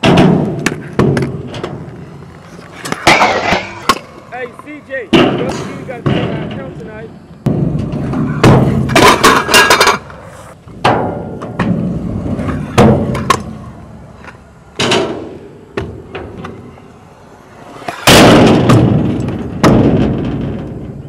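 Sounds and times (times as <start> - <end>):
scooter wheels rolling: 0.0 - 21.0.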